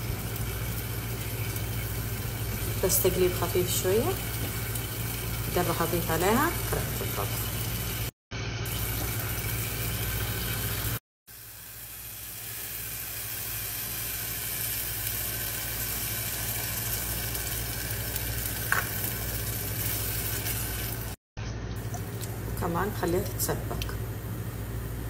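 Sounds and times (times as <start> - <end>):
marinade sizzling in a pot: 0.0 - 25.0.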